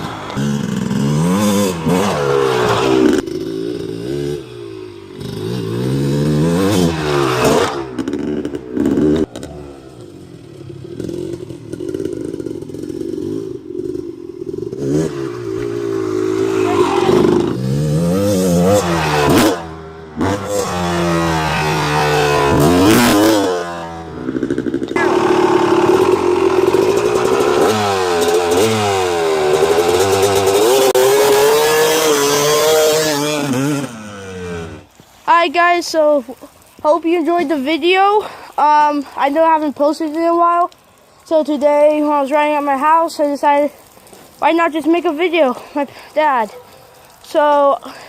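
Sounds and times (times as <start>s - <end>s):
dirt bike engine revving: 0.0s - 40.7s.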